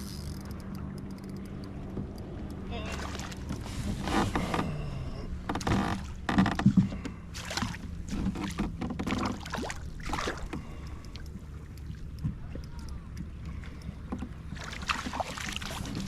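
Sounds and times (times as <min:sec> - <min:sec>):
steady low hum: 0:00.0 - 0:16.0
water splashing around kayak: 0:00.0 - 0:16.0.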